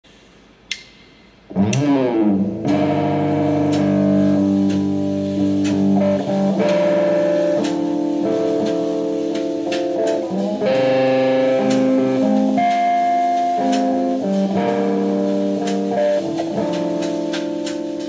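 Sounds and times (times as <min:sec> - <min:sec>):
electric guitar slow notes: 0:00.7 - 0:18.0.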